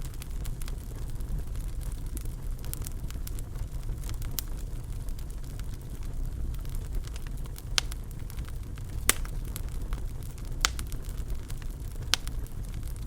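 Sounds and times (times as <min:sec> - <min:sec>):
fire crackling ticks and pops: 0:00.0 - 0:13.0
fire rumbling in fireplace: 0:00.0 - 0:13.0.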